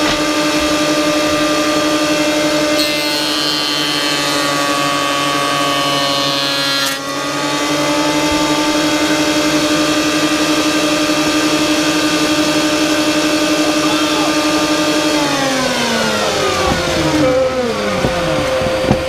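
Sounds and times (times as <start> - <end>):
planer motor whining: 0.0 - 19.0.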